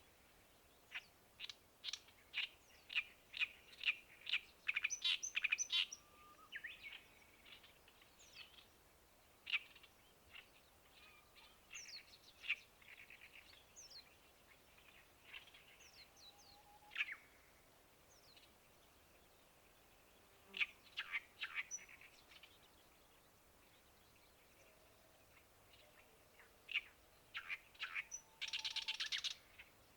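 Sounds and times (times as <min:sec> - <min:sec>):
faint background hiss: 0:00.0 - 0:29.9
small birds chirping: 0:00.0 - 0:29.9.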